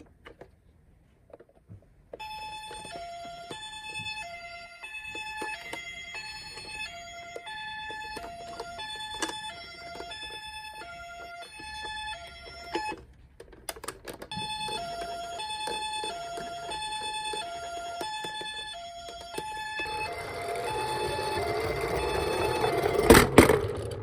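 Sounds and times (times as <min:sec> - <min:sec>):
toy siren two-tone: 0:02.2 - 0:13.0, 0:14.3 - 0:23.9.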